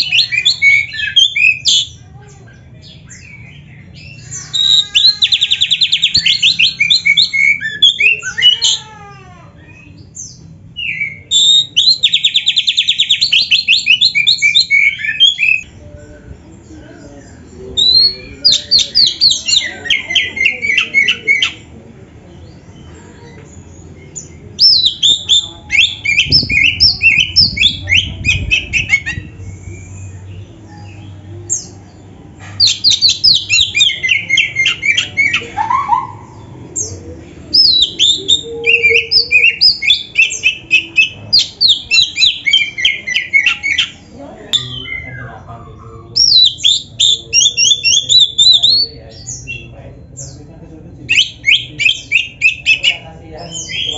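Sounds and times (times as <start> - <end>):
bird singing trills and chattering: 0.0 - 8.9, 9.6 - 15.9, 16.6 - 21.7, 22.4 - 53.9.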